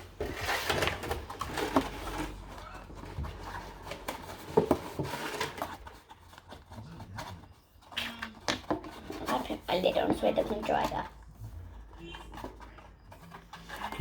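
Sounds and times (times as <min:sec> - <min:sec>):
paint pens tapping on plastic: 0:01.0 - 0:14.0.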